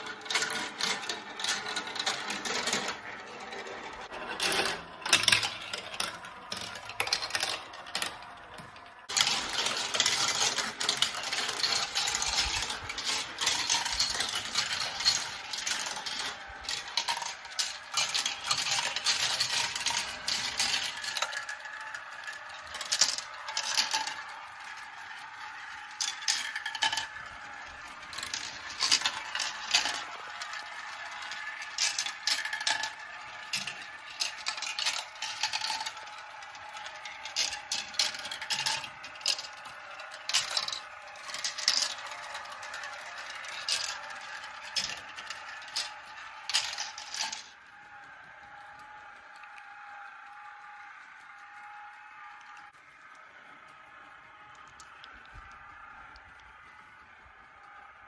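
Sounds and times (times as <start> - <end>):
marbles clattering down plastic track: 0.0 - 58.0.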